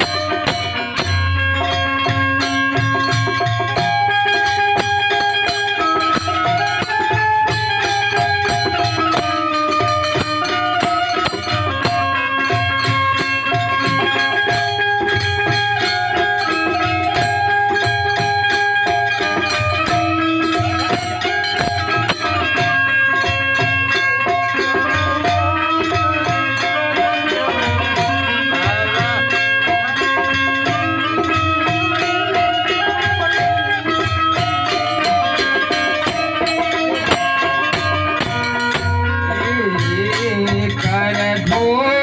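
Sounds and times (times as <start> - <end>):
dholak drum rhythm: 0.0 - 42.0
harmonium melody: 0.0 - 42.0.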